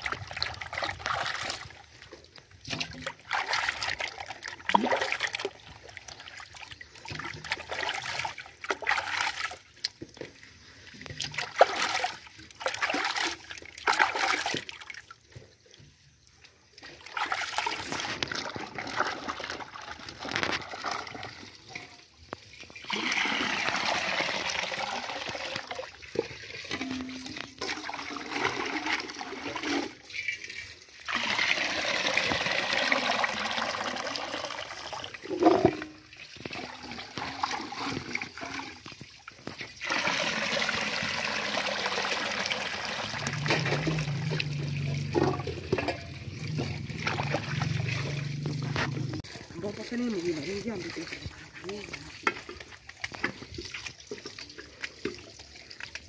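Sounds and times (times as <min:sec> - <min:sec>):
water pouring from basin: 0:00.0 - 0:56.0.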